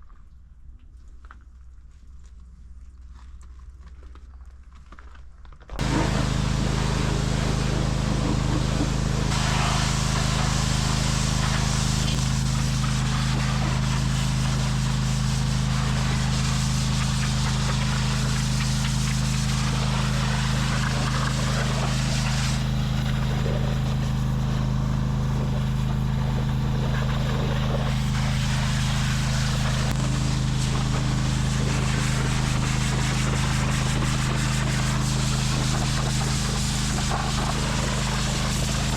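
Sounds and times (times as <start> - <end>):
loud spray hiss: 5.8 - 38.9
pressure washer engine running: 5.8 - 38.9.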